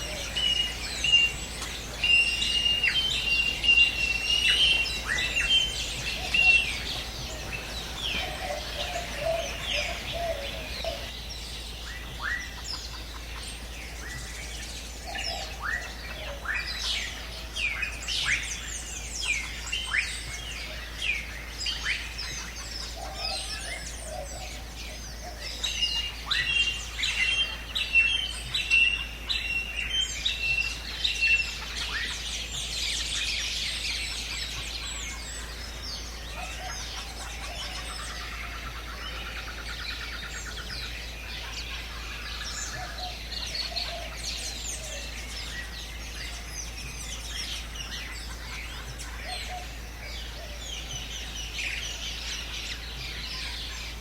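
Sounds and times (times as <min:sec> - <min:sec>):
birds chirping chorus: 0:00.0 - 0:54.0.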